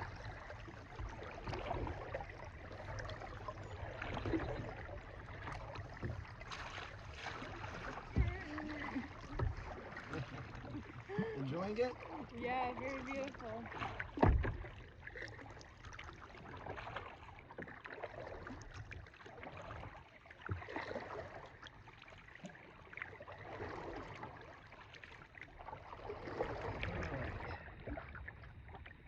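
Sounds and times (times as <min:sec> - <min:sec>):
paddle splashing in water: 0:00.0 - 0:29.0.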